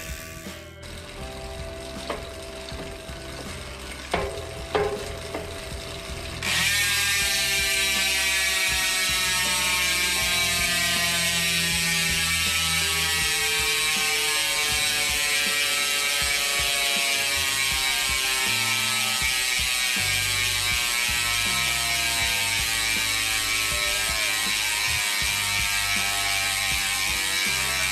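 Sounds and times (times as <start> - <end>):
bicycle freehub buzzing: 0.0 - 27.9.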